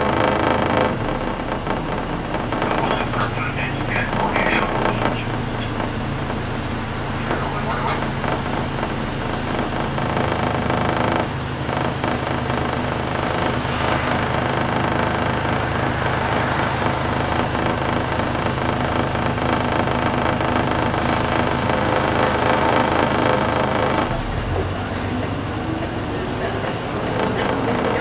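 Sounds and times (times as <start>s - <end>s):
bus engine and road noise: 0.0s - 28.0s.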